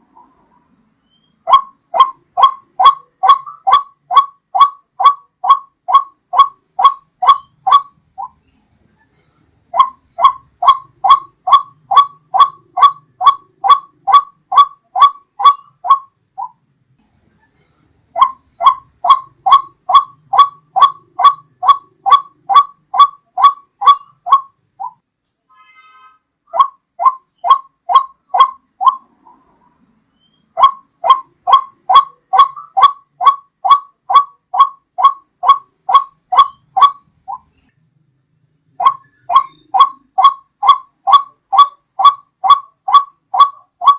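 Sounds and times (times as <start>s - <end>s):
bird call repeated short notes: 1.0s - 8.6s, 9.8s - 16.6s, 18.2s - 29.1s, 30.2s - 37.7s, 38.7s - 43.9s.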